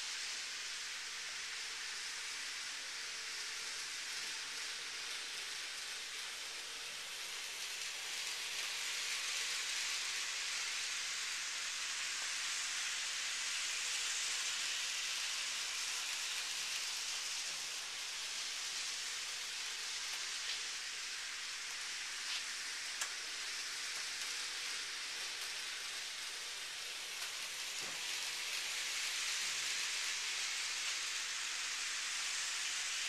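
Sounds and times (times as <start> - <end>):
model train wheels and motor hiss: 0.0 - 33.0.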